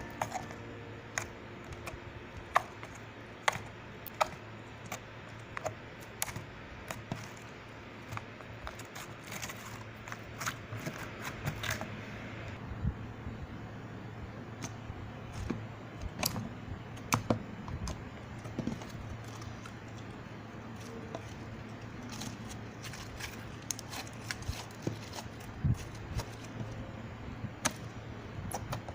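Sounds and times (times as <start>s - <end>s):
faint low hum: 0.0s - 28.9s.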